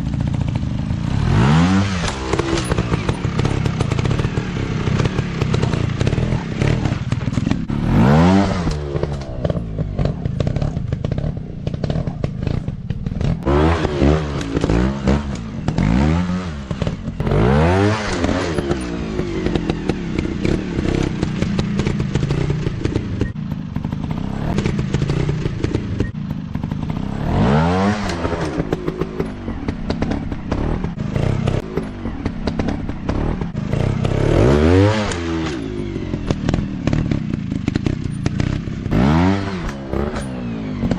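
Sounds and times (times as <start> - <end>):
dirt bike engines revving: 0.0 - 40.9
knocks and clatter: 1.9 - 40.9.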